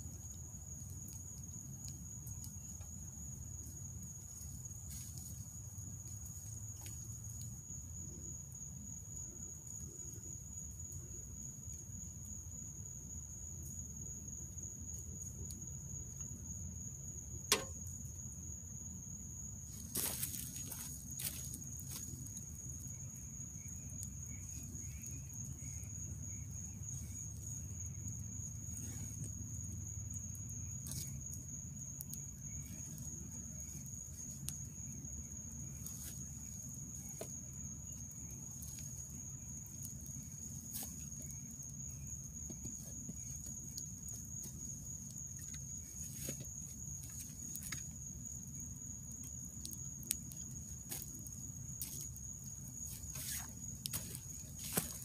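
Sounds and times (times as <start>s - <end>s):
campfire crackling and popping: 0.0s - 11.2s, 19.5s - 55.0s
night insects droning: 0.0s - 55.0s.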